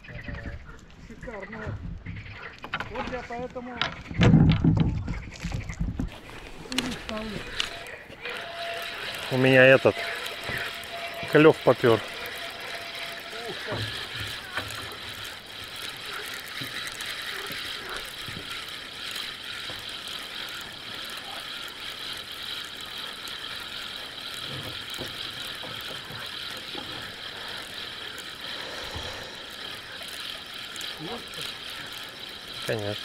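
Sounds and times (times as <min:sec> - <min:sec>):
fishing reel clicking and whirring: 0:06.1 - 0:33.0.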